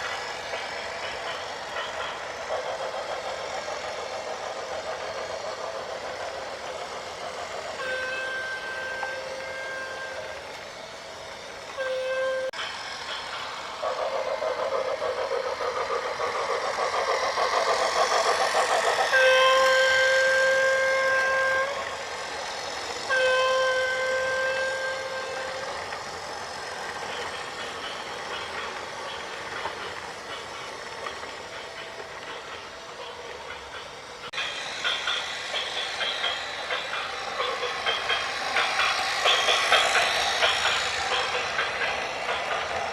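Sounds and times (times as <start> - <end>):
rhythmic rattling: 0.0 - 9.4, 12.6 - 21.1, 23.7 - 42.9.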